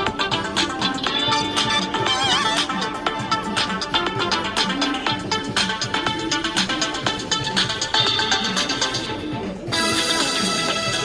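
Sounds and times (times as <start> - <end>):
phone ringtone plucked melody: 0.0 - 11.0.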